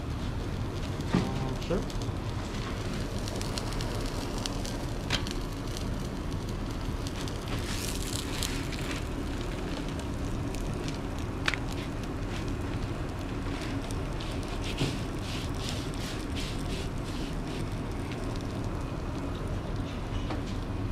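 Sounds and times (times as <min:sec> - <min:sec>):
food sizzling on griddle: 0:00.0 - 0:19.5
popping fat: 0:00.1 - 0:19.8.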